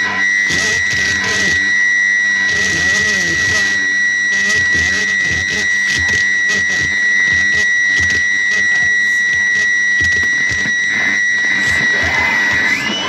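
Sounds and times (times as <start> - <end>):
high-pitched whine: 0.0 - 13.0.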